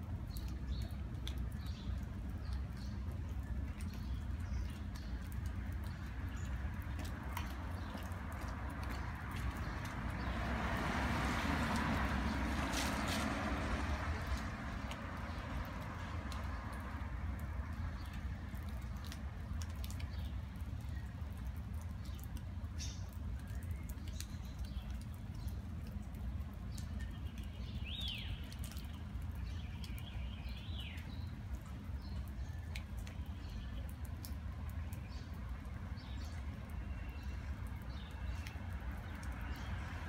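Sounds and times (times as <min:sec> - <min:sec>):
light ticks: 0:00.2 - 0:10.3, 0:14.2 - 0:39.7.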